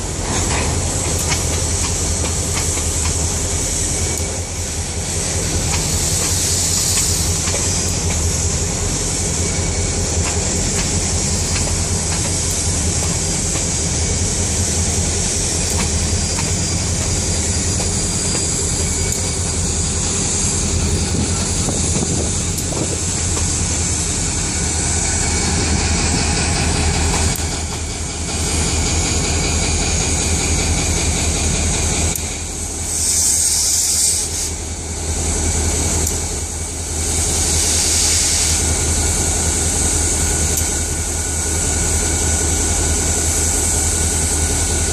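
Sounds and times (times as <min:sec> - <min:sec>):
train wheels clattering on rails: 0:00.0 - 0:44.9
high hiss: 0:00.8 - 0:44.9.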